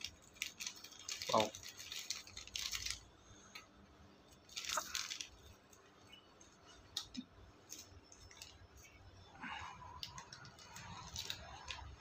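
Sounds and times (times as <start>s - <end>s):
plastic bag crinkling: 0.0s - 3.1s, 4.3s - 9.1s, 9.9s - 12.0s.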